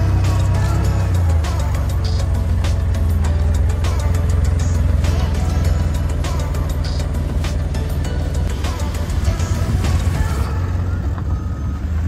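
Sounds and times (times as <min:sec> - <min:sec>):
background music with beat: 0:00.0 - 0:12.0
forklift engine running: 0:00.0 - 0:12.0.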